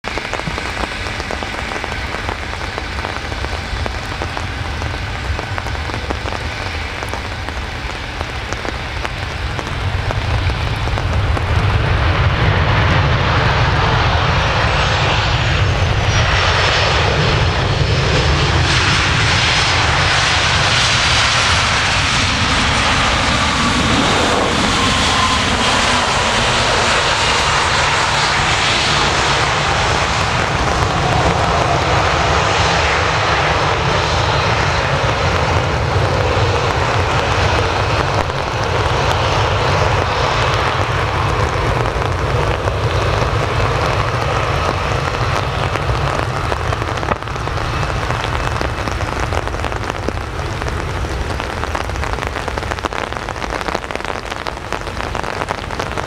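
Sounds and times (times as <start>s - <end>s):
jet airliner landing: 0.0s - 56.0s
jet engine whine falling in pitch: 0.0s - 56.0s.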